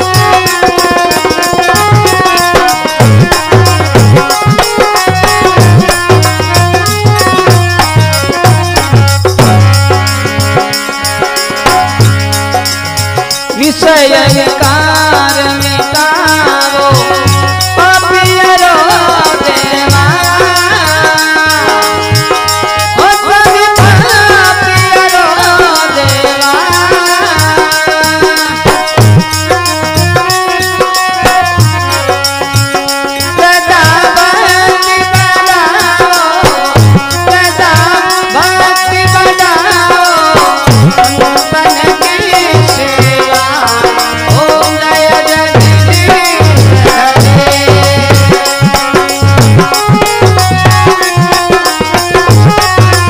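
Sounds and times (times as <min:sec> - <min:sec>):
drum beats: 0:00.0 - 0:53.0
ornamented folk melody: 0:00.0 - 0:53.0.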